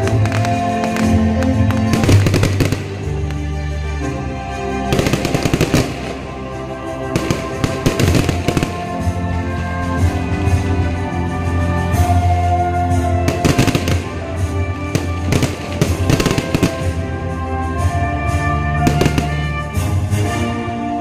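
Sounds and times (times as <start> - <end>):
fireworks crackling: 0.0 - 21.0
music with steady bass line: 0.0 - 21.0.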